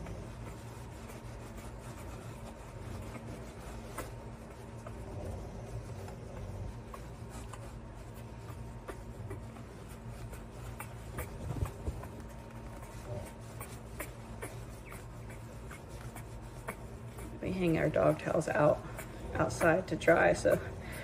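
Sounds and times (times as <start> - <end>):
towel rubbing and rustling: 0.0 - 20.6
steady low hum: 0.0 - 21.0.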